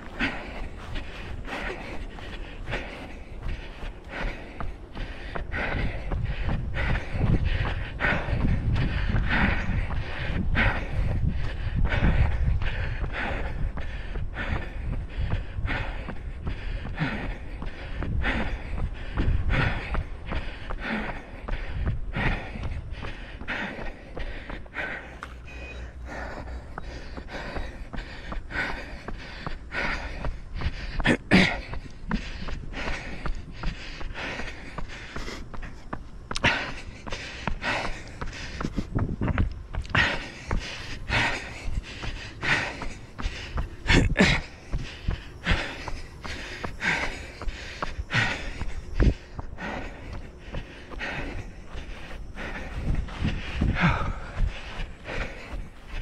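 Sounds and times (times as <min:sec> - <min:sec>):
runner gasping breaths: 0:00.0 - 0:56.0.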